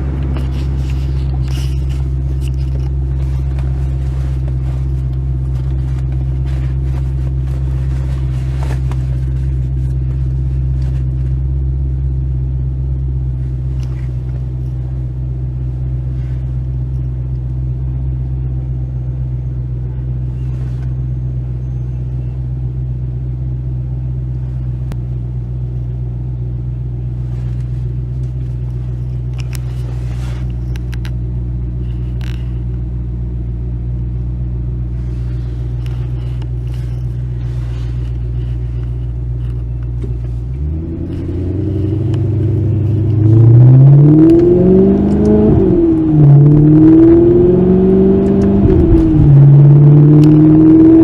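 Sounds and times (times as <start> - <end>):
sports car engine idling and revving: 0.0 - 51.0.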